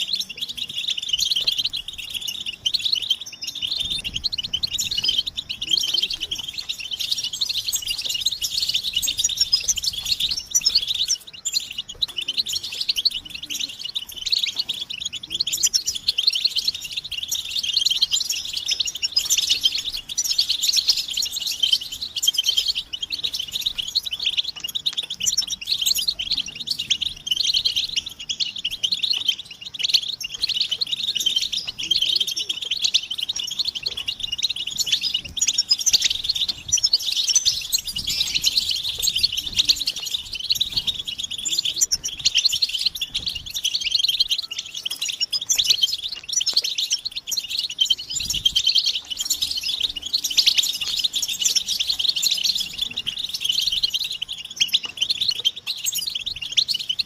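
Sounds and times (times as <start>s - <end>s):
goldfinches twittering: 0.0s - 57.0s.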